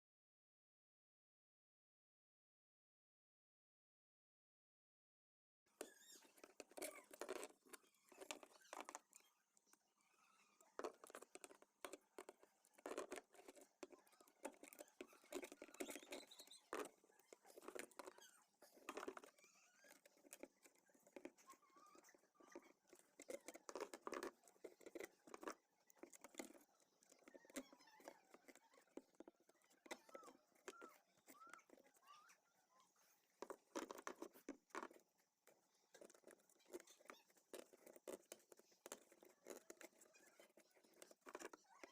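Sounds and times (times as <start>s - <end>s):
hands clicking and tapping parts: 5.8s - 9.7s, 10.6s - 32.1s, 33.0s - 41.9s.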